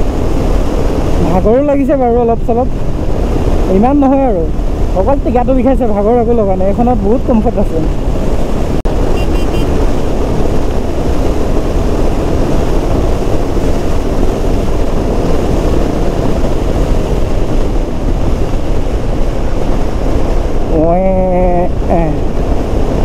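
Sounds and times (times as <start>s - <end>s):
motorcycle engine and road noise: 0.0s - 23.0s
wind rushing over microphone: 0.0s - 23.0s.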